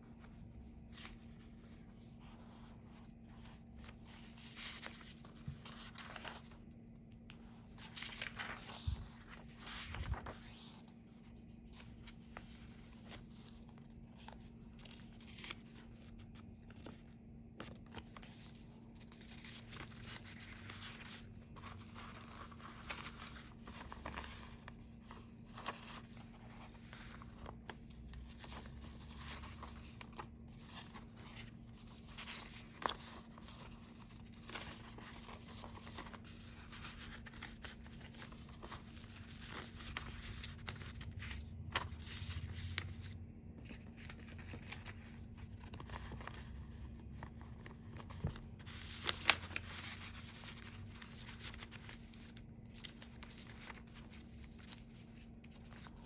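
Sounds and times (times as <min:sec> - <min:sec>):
faint steady hum: 0:00.0 - 0:56.0
paper rustling: 0:00.1 - 0:56.0.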